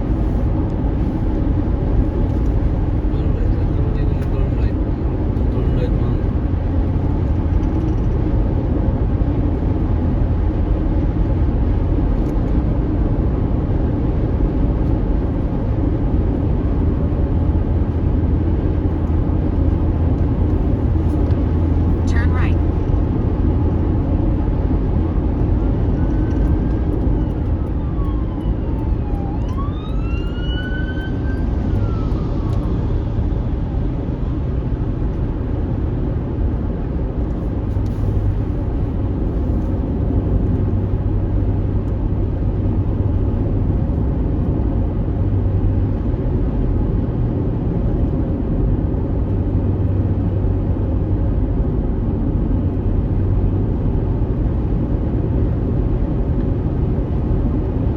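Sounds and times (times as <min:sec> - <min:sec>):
vehicle rumble on unpaved road: 0:00.0 - 0:57.9.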